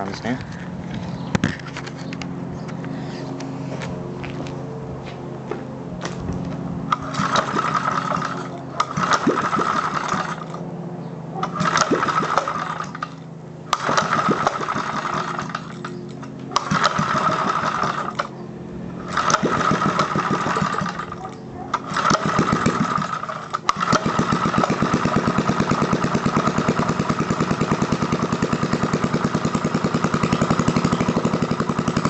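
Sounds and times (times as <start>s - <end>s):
small engine revving up and down: 6.0s - 32.0s.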